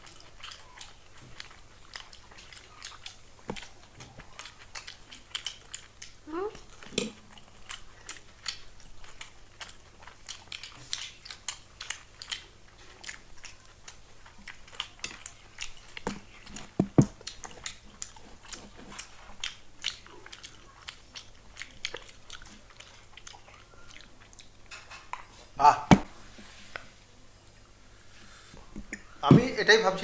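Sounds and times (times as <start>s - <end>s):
people chewing: 0.0s - 29.6s.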